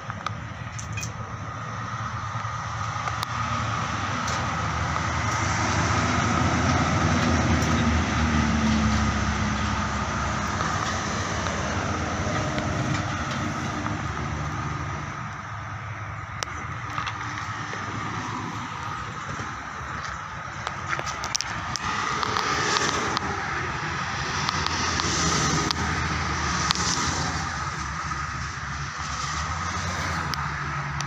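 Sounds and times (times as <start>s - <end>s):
vehicle engine passing by: 3.2s - 15.4s, 16.5s - 31.0s.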